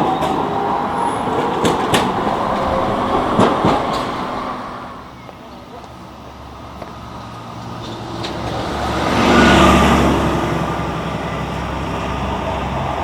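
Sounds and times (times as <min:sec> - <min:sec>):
tram motors humming: 0:00.0 - 0:13.0
tram wheels on rails: 0:00.0 - 0:13.0.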